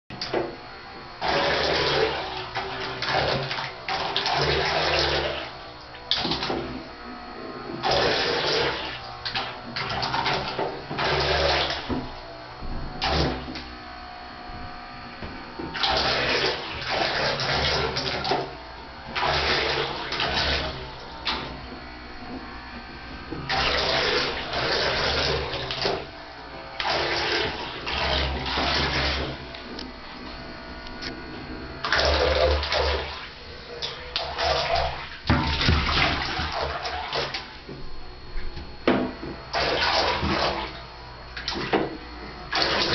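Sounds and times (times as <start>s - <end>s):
water splashing in bathtub: 1.2s - 7.0s, 7.7s - 12.2s, 12.9s - 13.8s, 15.5s - 29.7s, 31.7s - 42.9s.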